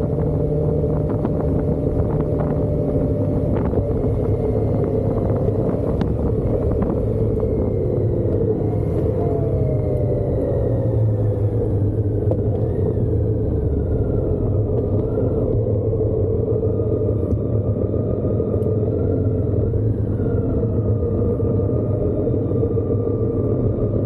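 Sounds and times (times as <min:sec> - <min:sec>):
wind and road rumble: 0:00.0 - 0:24.0.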